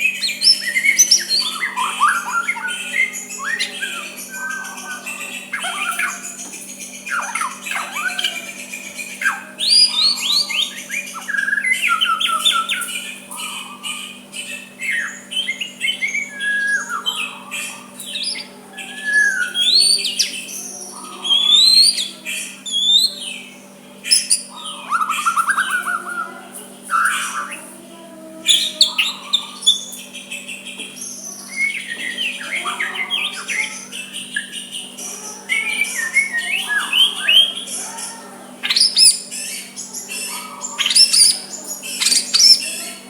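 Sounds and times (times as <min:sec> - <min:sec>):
bird singing whistled song: 0:00.0 - 0:27.6, 0:28.5 - 0:37.9, 0:38.6 - 0:43.0
faint hum: 0:00.0 - 0:43.0.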